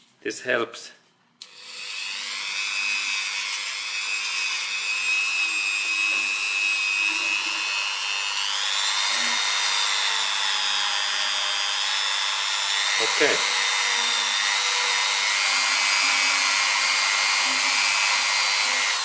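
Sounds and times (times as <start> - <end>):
rotary tool high-pitched whine: 1.4 - 19.0.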